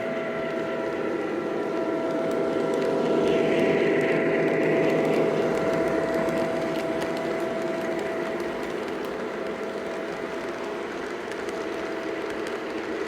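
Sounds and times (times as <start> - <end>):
model train diesel sound drone: 0.0 - 13.0
wheels rumbling on track: 0.0 - 13.0.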